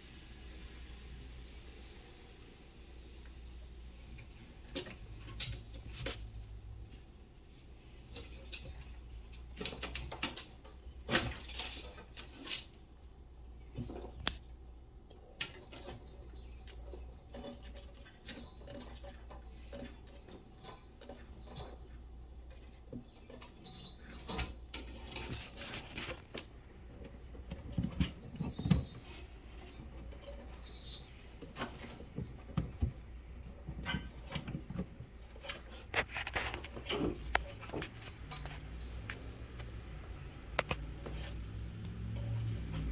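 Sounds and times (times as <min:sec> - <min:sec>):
mouse scratching and pattering: 0:03.1 - 0:42.9.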